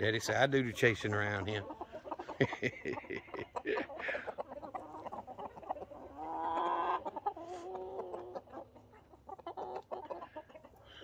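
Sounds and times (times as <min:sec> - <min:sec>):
chickens clucking: 0:00.0 - 0:11.0
chicken long drawn-out call: 0:01.8 - 0:11.0.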